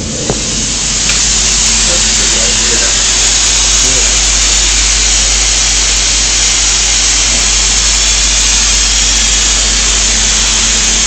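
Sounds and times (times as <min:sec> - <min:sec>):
low machine hum: 0:00.0 - 0:11.0
machine loud steady hiss: 0:00.0 - 0:11.0.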